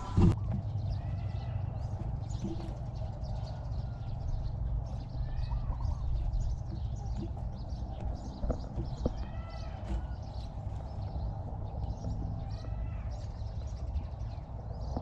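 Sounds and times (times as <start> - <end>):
chirping animal calls: 0.0 - 15.0.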